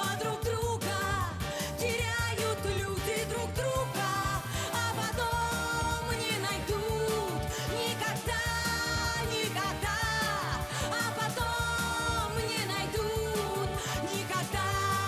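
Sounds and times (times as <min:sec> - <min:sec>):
pulsing bass line: 0:00.0 - 0:15.0.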